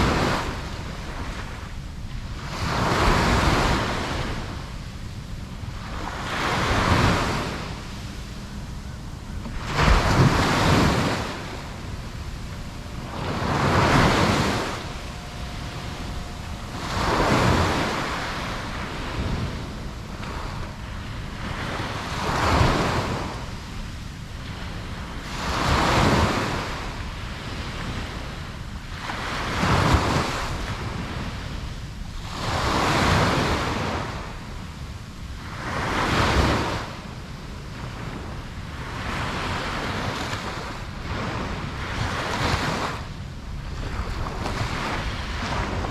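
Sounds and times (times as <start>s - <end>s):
low constant rumble: 0.0s - 45.9s
waves breaking on a beach: 0.0s - 45.9s
wind noise on microphone: 0.0s - 45.9s.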